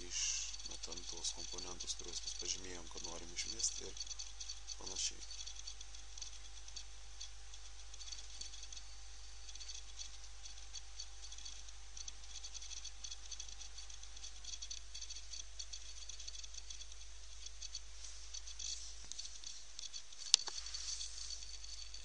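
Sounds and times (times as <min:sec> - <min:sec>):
crackling hiss with clicks: 0:00.0 - 0:22.0
faint steady whine: 0:00.0 - 0:22.0
low hum: 0:00.0 - 0:22.0.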